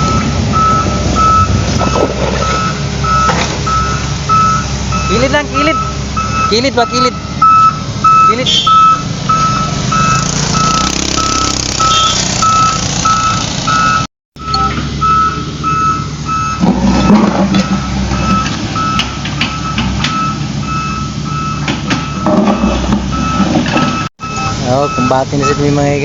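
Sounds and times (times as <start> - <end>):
truck engine rumble: 0.0 - 26.0
truck reversing alarm beeping: 0.0 - 26.0.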